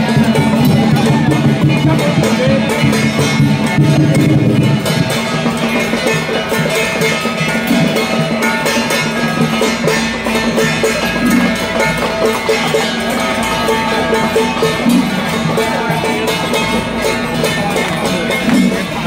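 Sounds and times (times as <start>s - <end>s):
drums: 0.0s - 19.0s
ringing metal gongs and cymbals: 0.0s - 19.0s.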